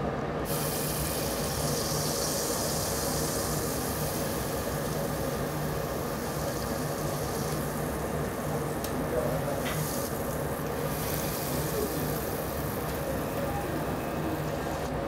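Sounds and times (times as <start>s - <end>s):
grill plate sizzling: 0.5s - 14.9s.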